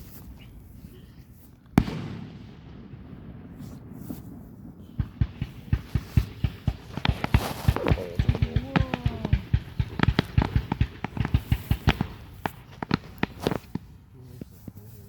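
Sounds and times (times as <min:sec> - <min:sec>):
fireworks bangs and crackling pops: 0:01.5 - 0:15.0.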